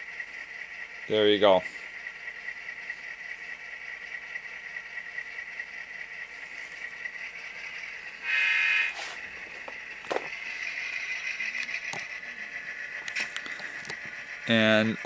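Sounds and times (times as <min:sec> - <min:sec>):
tinny diesel locomotive hum: 0:00.0 - 0:15.0.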